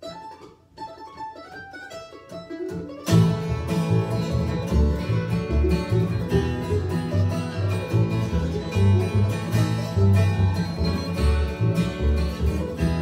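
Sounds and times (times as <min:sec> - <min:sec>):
acoustic guitar: 0:00.0 - 0:13.0
mandolin: 0:00.0 - 0:13.0
plucked upright bass: 0:00.0 - 0:13.0.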